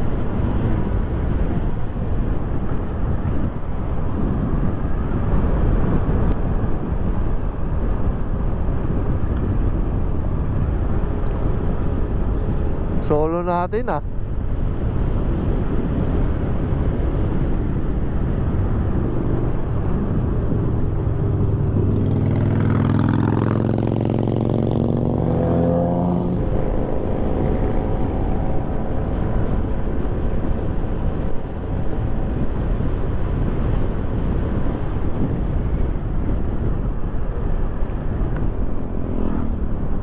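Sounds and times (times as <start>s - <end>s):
wind and road rumble: 0.0s - 40.0s.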